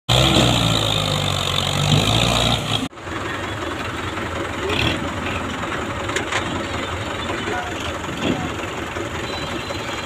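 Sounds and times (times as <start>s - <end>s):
tractor diesel engine under load: 0.1s - 10.0s.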